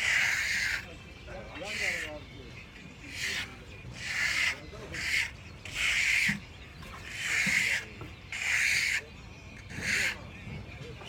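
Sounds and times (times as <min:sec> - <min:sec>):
trowel scraping rough wall: 0:00.0 - 0:10.3.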